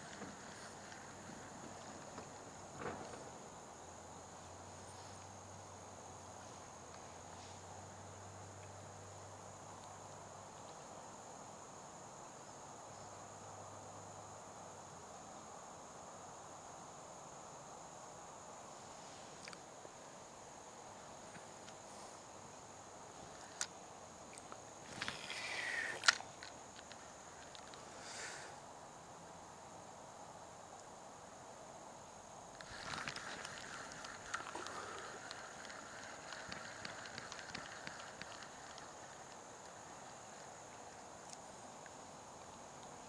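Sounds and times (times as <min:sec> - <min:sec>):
faint background hiss: 0:00.0 - 0:43.0
high-pitched insect chorus: 0:00.0 - 0:43.0.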